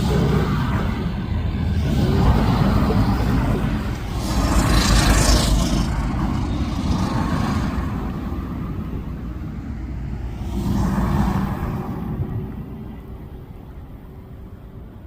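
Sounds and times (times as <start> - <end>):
hissing rush: 0.0 - 13.7
jet engines rumbling: 0.0 - 15.0.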